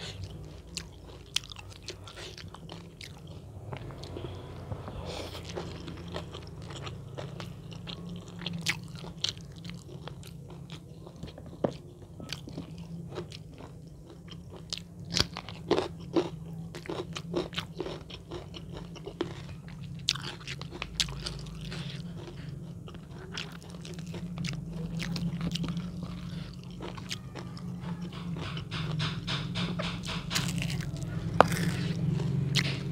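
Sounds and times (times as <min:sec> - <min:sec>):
person chewing crunchy food: 0:00.0 - 0:32.9
steady low hum: 0:00.0 - 0:32.9.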